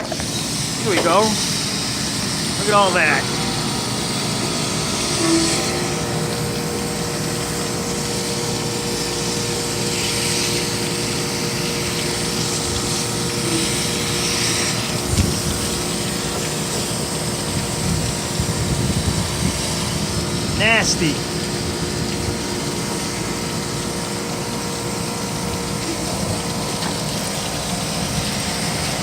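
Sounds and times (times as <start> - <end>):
high pressure water spray hissing: 0.0 - 29.0
steady machinery hum: 0.0 - 29.0.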